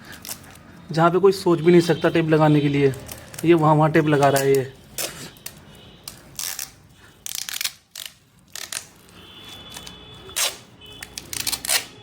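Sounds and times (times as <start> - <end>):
adhesive tape ripping: 0.0 - 0.7, 2.9 - 12.0.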